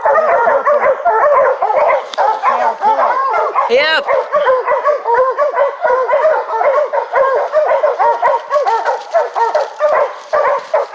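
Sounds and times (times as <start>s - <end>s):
dogs barking: 0.0s - 10.9s.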